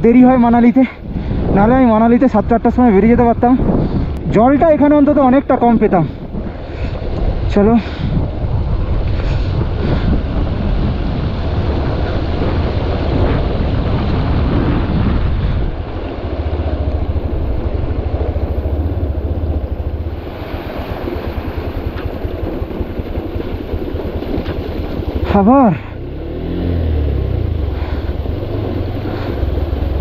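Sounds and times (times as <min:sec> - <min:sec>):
wind on microphone: 0:00.0 - 0:30.0
motorcycle engine running: 0:01.0 - 0:30.0.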